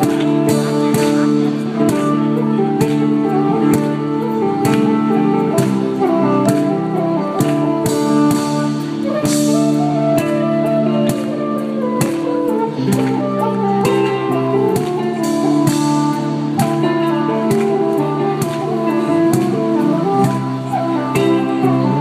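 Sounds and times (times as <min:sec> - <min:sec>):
electric guitar chords: 0:00.0 - 0:22.0
percussion beat: 0:00.0 - 0:22.0
wind instrument melody: 0:00.0 - 0:22.0.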